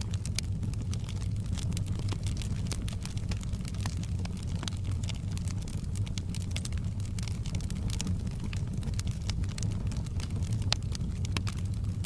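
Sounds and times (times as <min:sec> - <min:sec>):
campfire crackling and popping: 0:00.0 - 0:12.0
low rumble of flames: 0:00.0 - 0:12.0.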